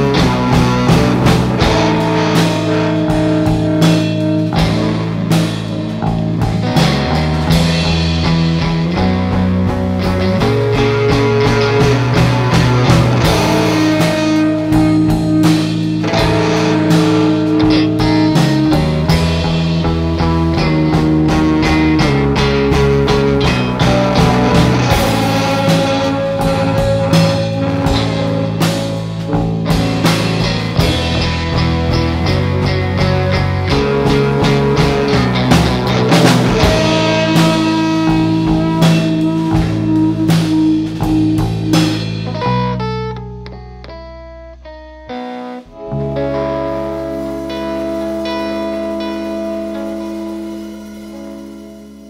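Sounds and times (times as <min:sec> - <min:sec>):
bass guitar: 0:00.0 - 0:52.0
drum kit: 0:00.0 - 0:52.0
electric guitars: 0:00.0 - 0:52.0
rock band playing instrumental: 0:00.0 - 0:52.0.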